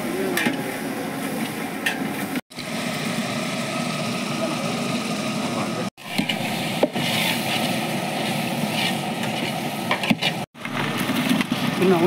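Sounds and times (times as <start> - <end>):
stove rushing noise: 0.0 - 12.0.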